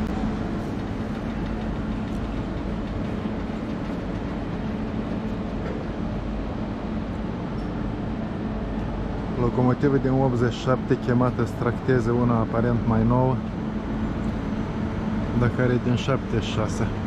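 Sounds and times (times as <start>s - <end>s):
electric locomotive rumbling past: 0.0s - 17.0s.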